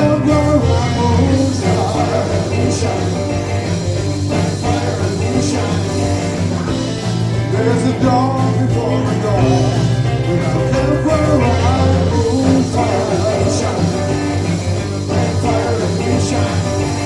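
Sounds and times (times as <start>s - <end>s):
bass guitar: 0.0s - 17.0s
drums: 0.0s - 17.0s
electric guitars: 0.0s - 17.0s
man singing lead: 0.0s - 17.0s.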